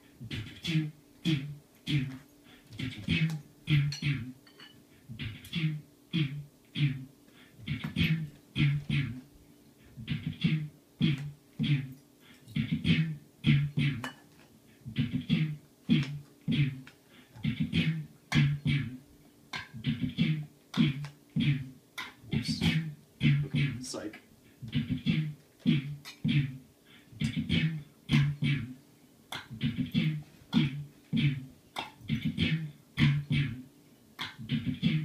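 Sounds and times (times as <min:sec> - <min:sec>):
beatboxing: 0:00.0 - 0:04.4, 0:05.0 - 0:35.0.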